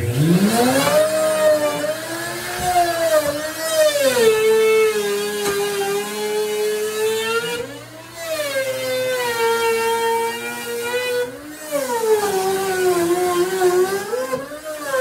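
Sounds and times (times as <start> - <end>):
router whining cutting wood: 0.0 - 15.0.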